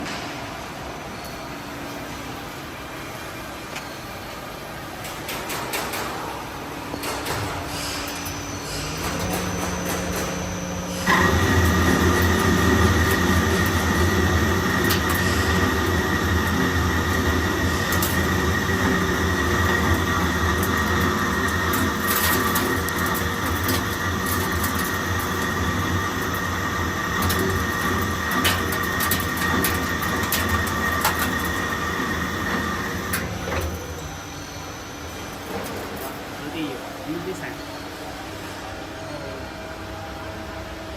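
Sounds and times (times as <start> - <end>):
lathe whining: 7.4 - 40.8.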